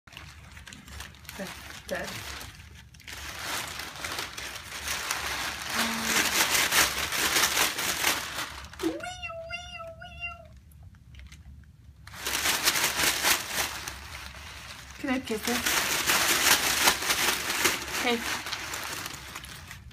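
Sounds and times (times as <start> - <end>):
paper sheet rustling: 0.1 - 9.4, 12.1 - 19.9.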